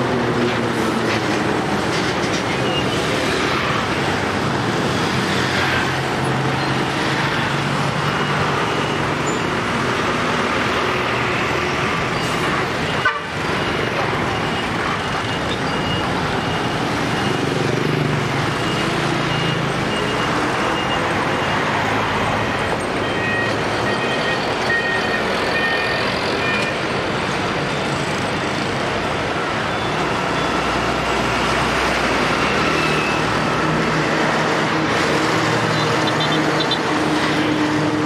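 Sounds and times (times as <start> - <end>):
bus passing: 0.0 - 38.0
heavy lorries rumbling: 0.0 - 38.0
motorbikes passing: 2.8 - 23.0, 27.0 - 38.0.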